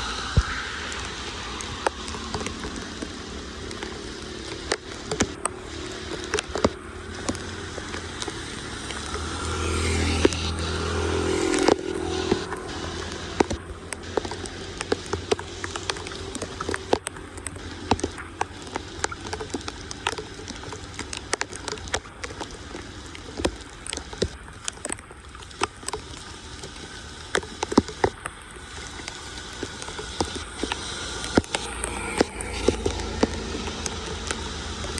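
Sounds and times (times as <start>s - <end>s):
water pattering and splashing: 0.0s - 34.9s.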